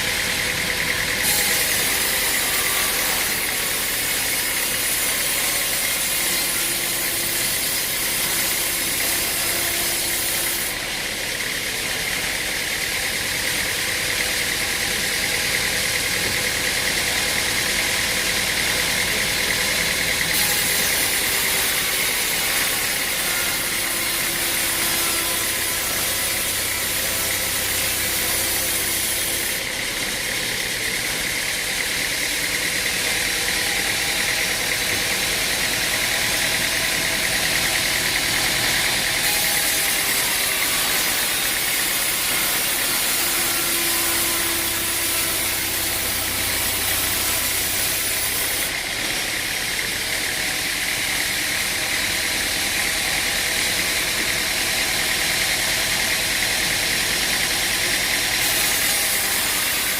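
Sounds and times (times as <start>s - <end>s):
engine-driven machinery running: 0.0s - 59.9s.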